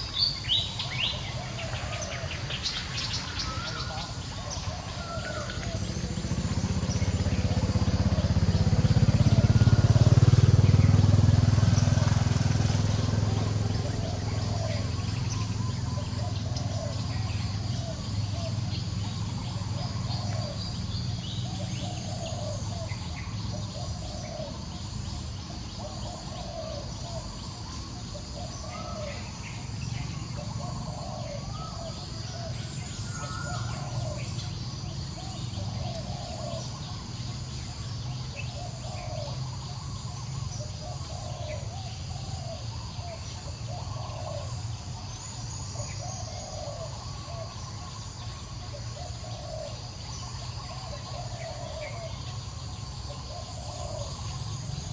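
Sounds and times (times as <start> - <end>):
bird call: 0.0 - 54.9
high insect drone: 0.0 - 54.9.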